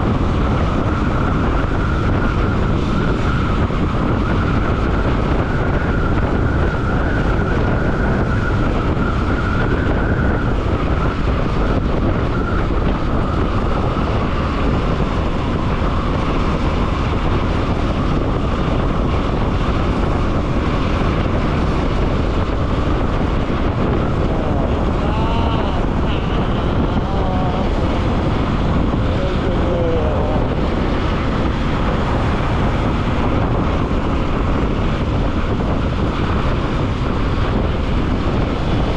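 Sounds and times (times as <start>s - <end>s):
motorcycle engine running: 0.0s - 38.9s
traffic noise: 0.0s - 38.9s
wind rushing over microphone: 0.0s - 38.9s.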